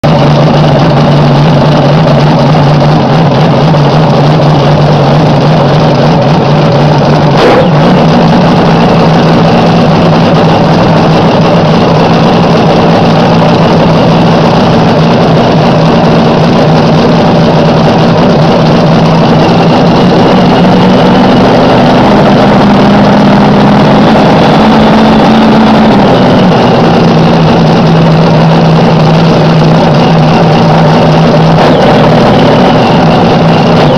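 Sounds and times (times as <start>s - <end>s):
dragster engine idling: 0.0s - 33.9s.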